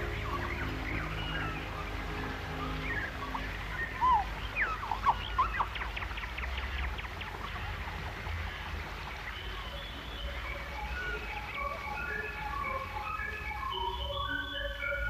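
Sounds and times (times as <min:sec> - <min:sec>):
bird chirps and trills: 0:00.0 - 0:15.0.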